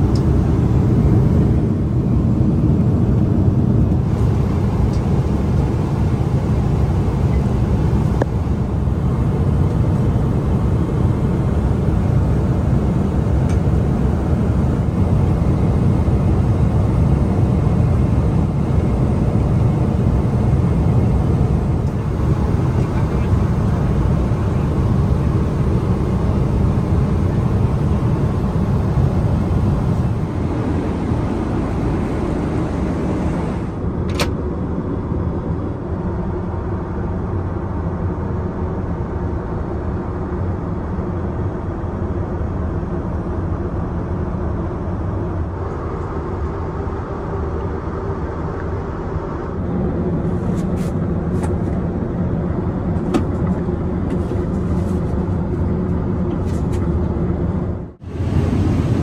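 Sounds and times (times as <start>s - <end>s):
airplane cabin engine noise: 0.0s - 59.0s.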